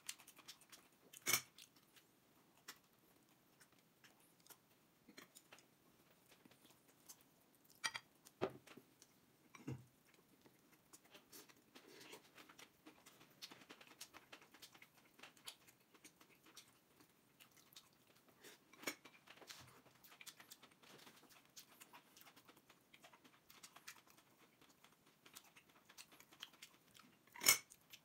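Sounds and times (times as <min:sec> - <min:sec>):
wet chewing clicks: 0:00.0 - 0:28.0.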